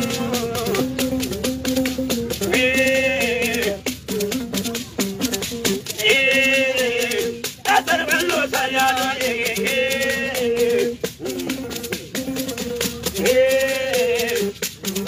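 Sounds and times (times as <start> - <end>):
rattle shaking: 0.0 - 15.0.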